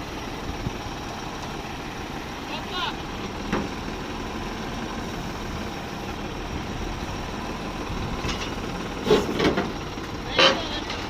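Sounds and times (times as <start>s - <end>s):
heavy vehicle engine idling: 0.0s - 11.0s.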